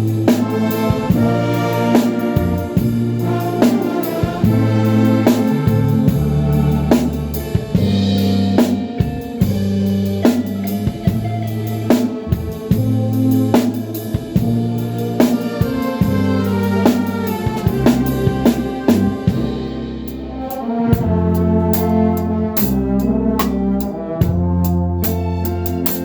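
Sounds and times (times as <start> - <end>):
bass line: 0.0 - 26.0
drum kit beat: 0.0 - 26.0
held chords: 0.0 - 26.0.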